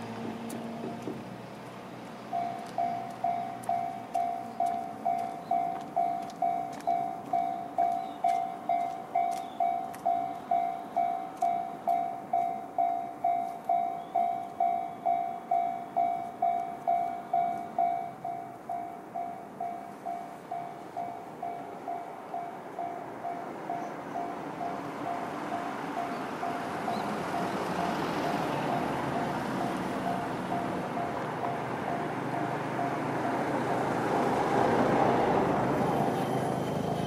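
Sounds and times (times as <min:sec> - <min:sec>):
level-crossing electronic bell: 0:02.3 - 0:33.5.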